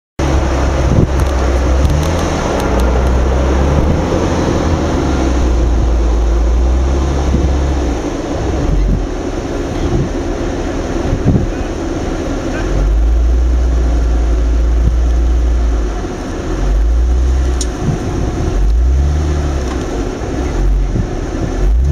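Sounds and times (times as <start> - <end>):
wind on microphone: 0.2 - 15.8, 16.5 - 21.9
deep low rumble: 0.2 - 21.9
vehicle engine running: 0.2 - 21.9.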